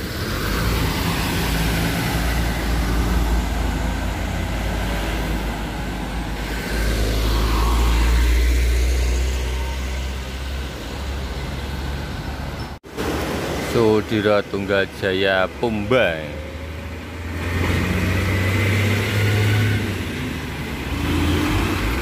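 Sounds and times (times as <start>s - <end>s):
trucks passing: 0.0s - 22.0s.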